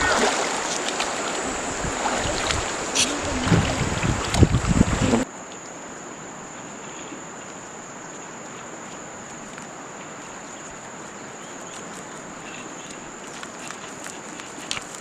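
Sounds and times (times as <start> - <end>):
insects calling: 0.0 - 15.0.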